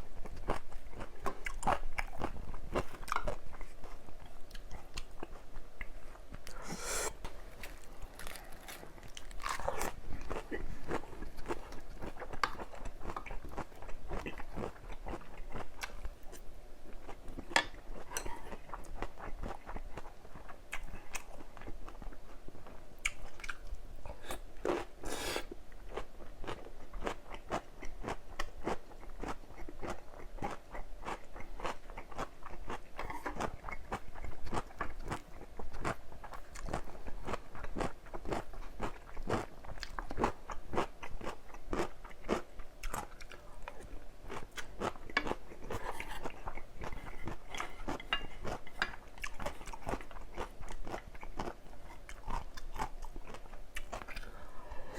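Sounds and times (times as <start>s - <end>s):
chewing and crunching food: 0.0s - 6.6s, 7.2s - 54.9s.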